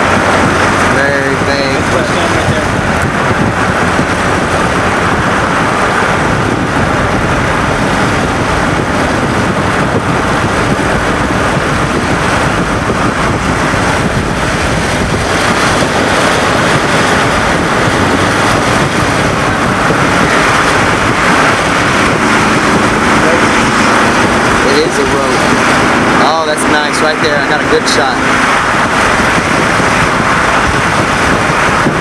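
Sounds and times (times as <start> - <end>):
car wind and road noise: 0.0 - 32.0.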